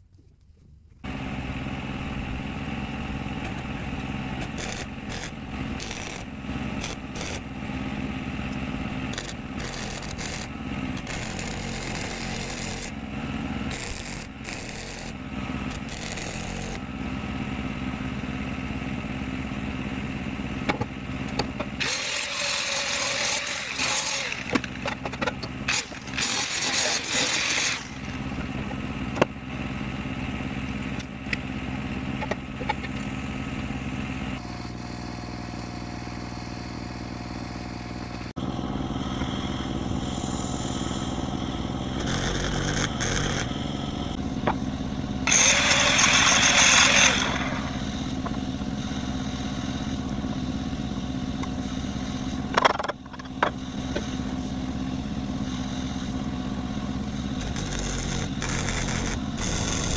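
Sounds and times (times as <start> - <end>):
engine running: 0.6 - 59.9.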